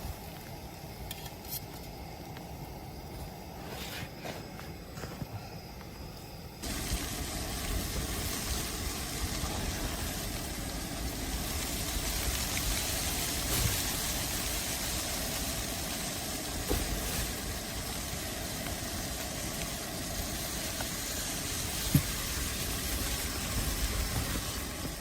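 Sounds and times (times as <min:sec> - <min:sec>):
low rumbling noise: 0:01.9 - 0:25.0.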